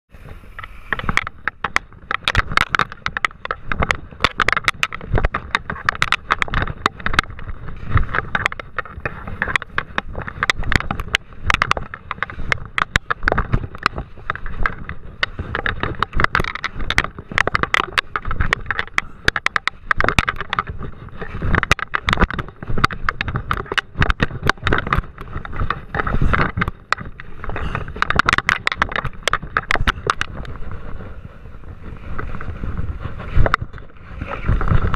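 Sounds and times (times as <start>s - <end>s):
skis scraping on snow: 0.1s - 34.9s
sharp clicks and knocks: 0.5s - 31.2s, 31.8s - 34.9s.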